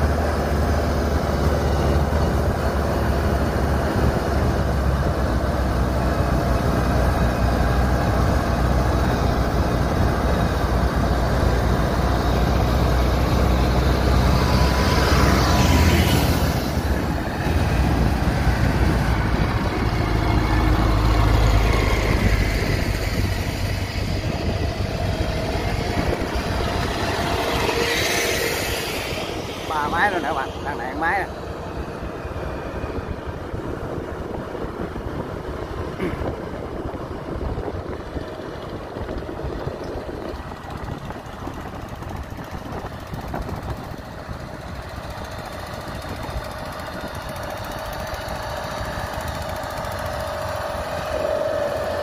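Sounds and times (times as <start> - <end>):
farm machine engines running: 0.0 - 52.0
machine passing close by: 0.0 - 52.0.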